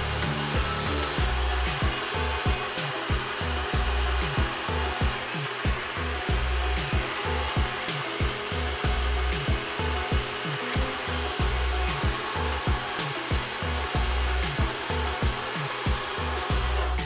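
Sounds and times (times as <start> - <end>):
background music with low beat: 0.0 - 17.0
blender motor whirring: 0.0 - 17.0.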